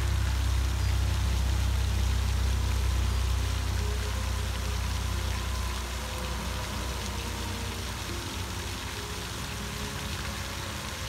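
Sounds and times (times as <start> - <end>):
low rumble: 0.0 - 8.9
fountain water spraying: 0.0 - 11.0.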